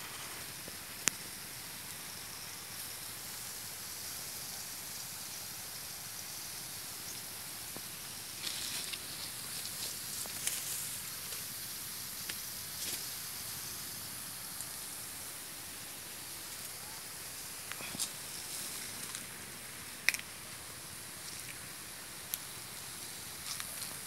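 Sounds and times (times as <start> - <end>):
steady high hiss: 0.0 - 24.0.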